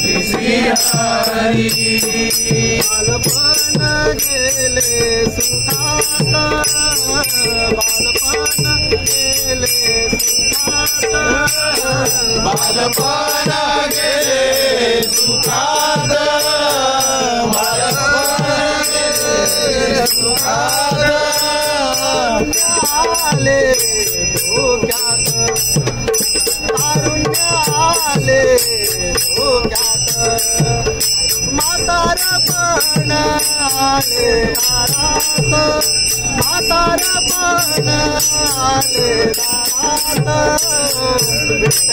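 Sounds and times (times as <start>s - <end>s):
group of men singing: 0.0s - 41.9s
small hand cymbals struck: 0.0s - 41.9s.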